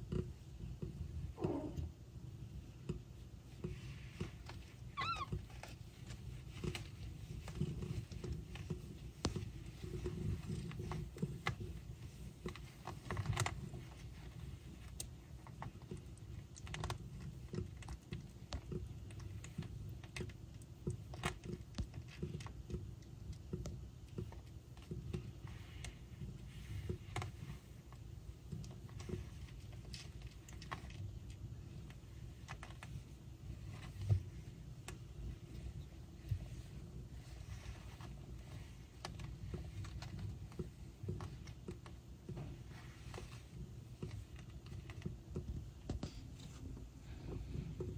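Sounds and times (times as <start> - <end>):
kittens suckling clicks and smacks: 2.3 - 47.9.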